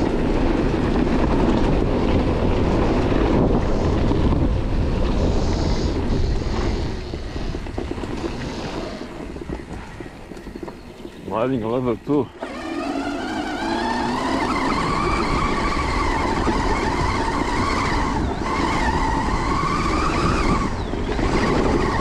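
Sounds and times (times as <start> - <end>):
tyre noise on dirt trail: 0.0 - 22.0
wind rushing over microphone: 0.0 - 22.0.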